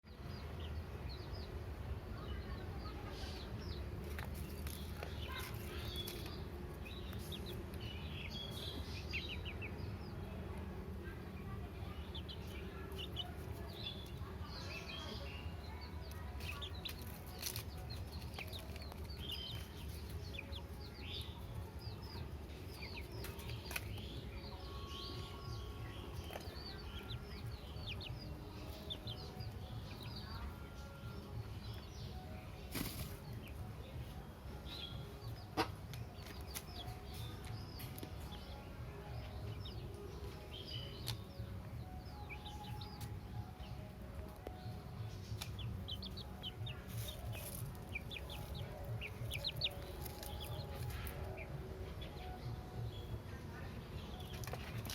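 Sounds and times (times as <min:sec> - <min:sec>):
birds chirping: 0:00.1 - 0:54.9.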